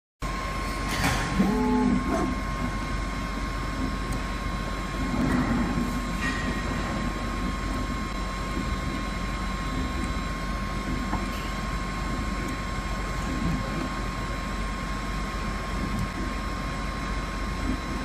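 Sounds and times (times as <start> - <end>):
high-pitched whine: 0.2 - 18.0
soldering robot mechanical hum: 0.3 - 6.2, 6.8 - 18.0.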